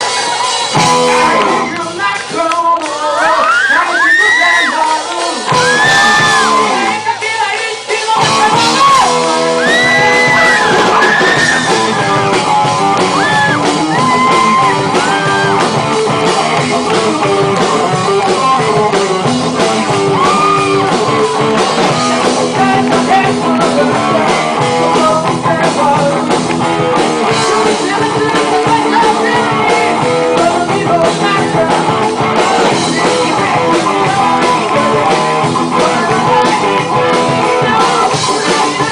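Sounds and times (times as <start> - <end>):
rock band playing: 0.0 - 38.9
person singing and shouting: 0.8 - 38.9.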